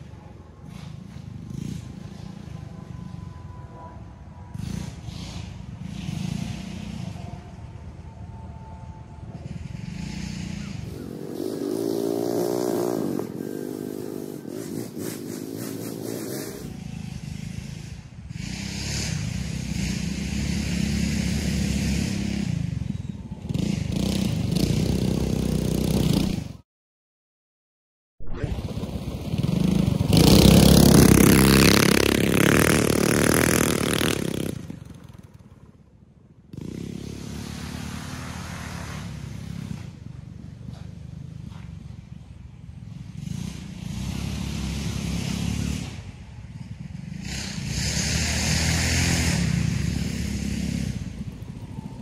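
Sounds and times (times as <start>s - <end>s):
small engines revving: 0.0s - 3.6s, 4.5s - 8.0s, 9.2s - 26.6s, 28.4s - 52.0s.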